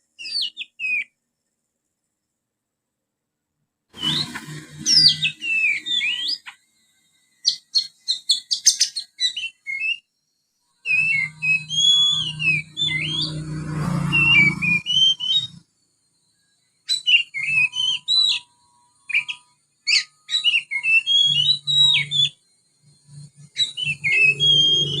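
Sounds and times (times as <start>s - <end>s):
songbird singing: 0.0s - 1.6s, 3.9s - 25.0s.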